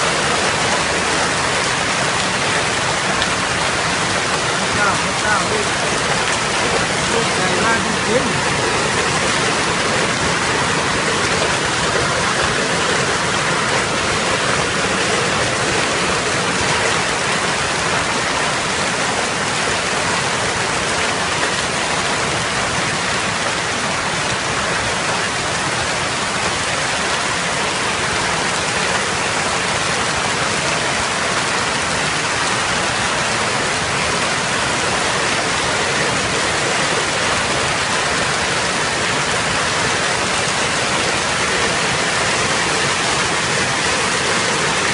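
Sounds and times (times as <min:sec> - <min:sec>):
hail and heavy rain falling: 0:00.0 - 0:44.9.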